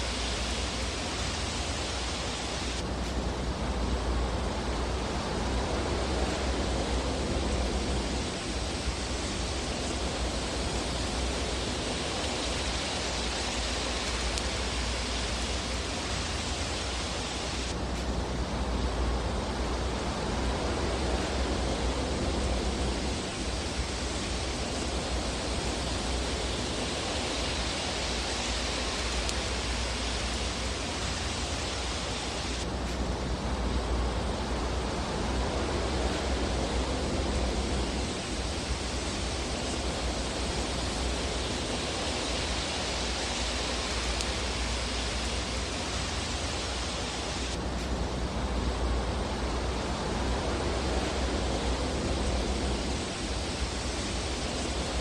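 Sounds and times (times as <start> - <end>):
fire rushing hiss: 0.0 - 55.0.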